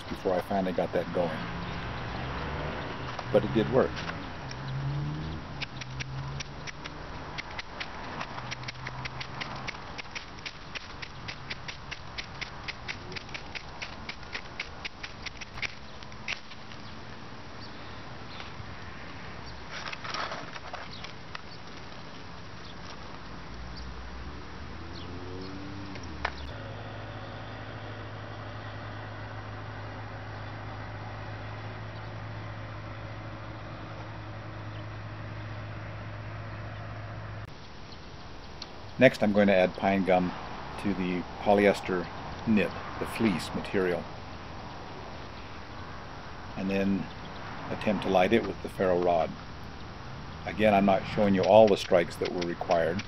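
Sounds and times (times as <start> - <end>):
traffic hum: 0.0 - 53.0.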